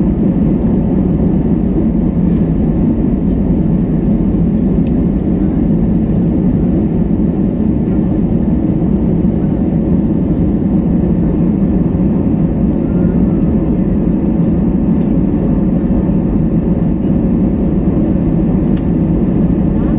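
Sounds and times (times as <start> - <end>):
airliner cabin engine noise: 0.0 - 19.9.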